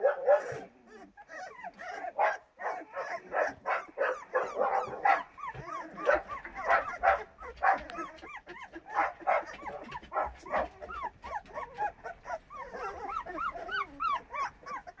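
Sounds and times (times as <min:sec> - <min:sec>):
puppies barking: 0:00.0 - 0:15.0
puppies yipping and whimpering: 0:00.0 - 0:15.0.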